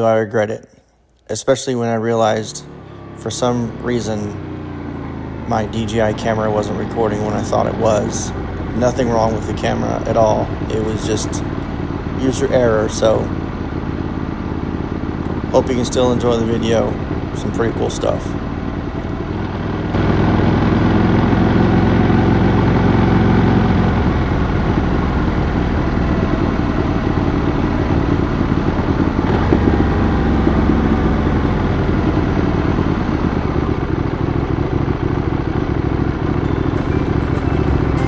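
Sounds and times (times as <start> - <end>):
road noise: 0.0 - 0.5, 1.3 - 38.0
motorcycle engine running: 2.0 - 38.0.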